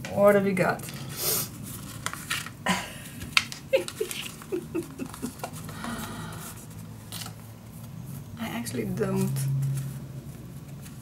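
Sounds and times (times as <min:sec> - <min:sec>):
paper rustling: 0:00.8 - 0:11.0.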